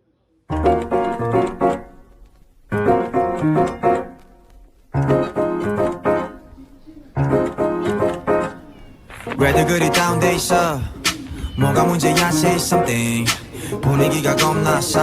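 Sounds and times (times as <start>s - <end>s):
piano chord riff: 0.5s - 15.0s.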